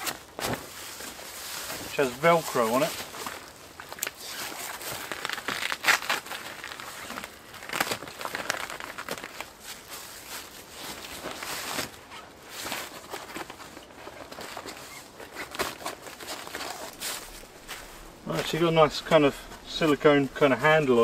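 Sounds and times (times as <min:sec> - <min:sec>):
tent fabric crinkling and rustling: 0:00.0 - 0:21.0.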